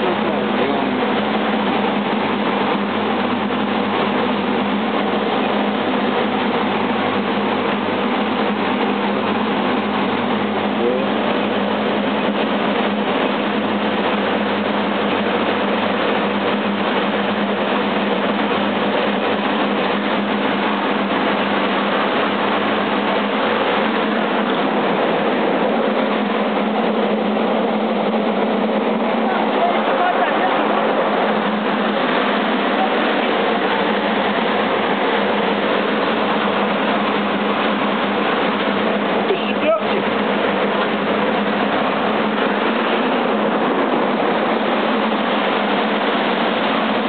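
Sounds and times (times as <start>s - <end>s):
constant hum: 0.0s - 47.0s
machinery whirring: 0.0s - 47.0s.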